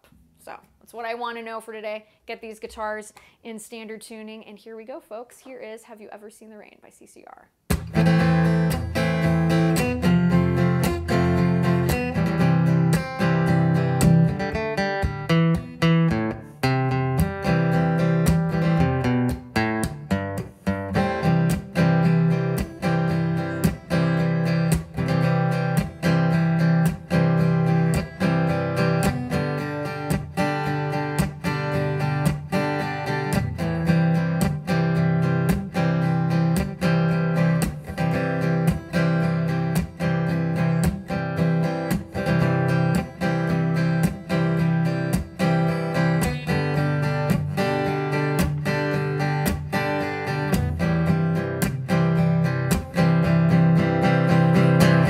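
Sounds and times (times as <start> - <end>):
acoustic guitar strumming: 7.7 - 55.0.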